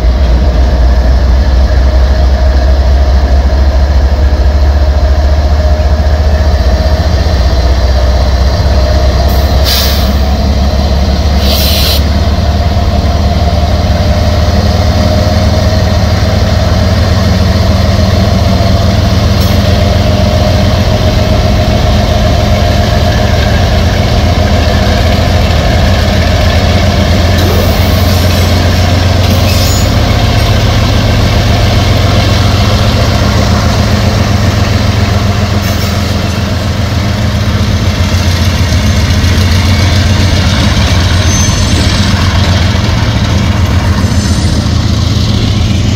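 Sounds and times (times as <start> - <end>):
locomotive engine drone: 0.0 - 45.9.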